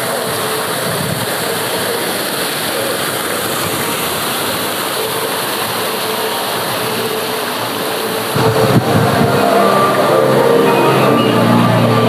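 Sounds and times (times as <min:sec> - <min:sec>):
fountain water splashing into basin: 0:00.0 - 0:12.0.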